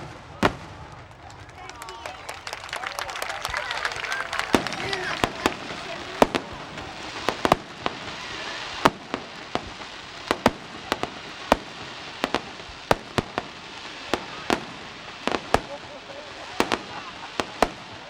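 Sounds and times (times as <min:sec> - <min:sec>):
crackling hiss: 0:00.0 - 0:18.0
firework shells bursting: 0:00.0 - 0:18.0.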